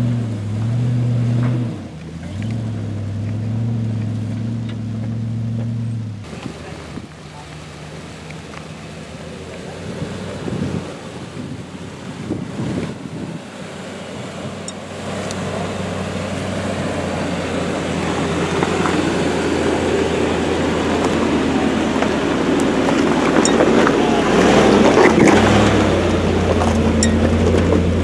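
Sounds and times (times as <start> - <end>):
truck engine crawling: 0.0 - 28.0.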